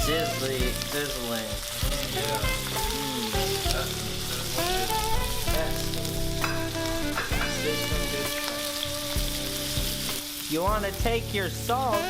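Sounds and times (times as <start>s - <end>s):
shrimp sizzling in oil: 0.0s - 12.0s.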